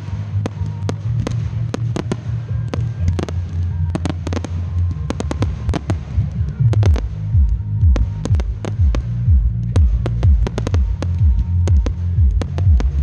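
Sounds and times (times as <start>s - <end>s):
fireworks bangs and cracks: 0.0s - 7.1s, 7.8s - 13.0s
low rumble: 0.0s - 13.0s.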